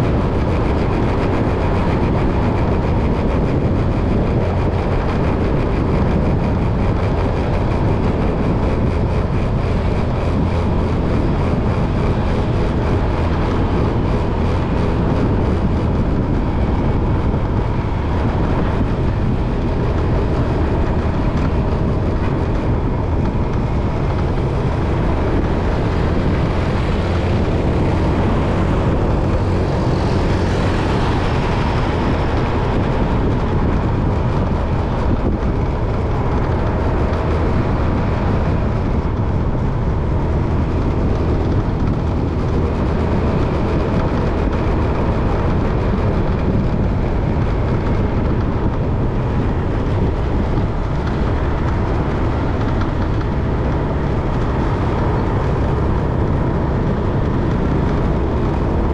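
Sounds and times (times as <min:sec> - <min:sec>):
deep engine and road rumble: 0:00.0 - 0:58.9.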